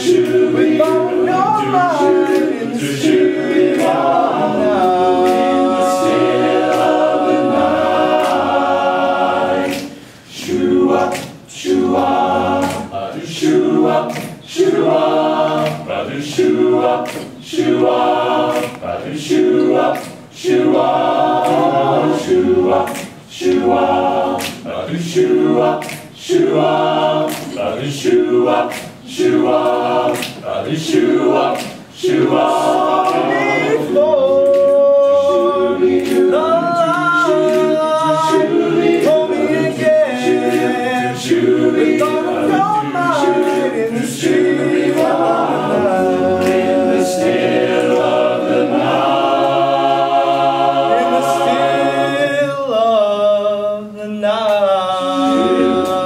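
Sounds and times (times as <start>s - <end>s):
men singing a cappella harmony: 0.0s - 56.0s.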